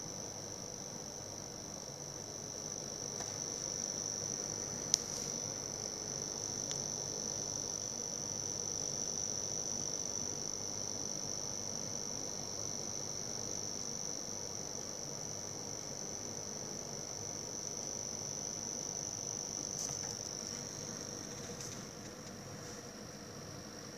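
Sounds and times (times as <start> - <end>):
power supply high-pitched buzz: 0.0 - 22.2
fan hiss: 0.0 - 23.9.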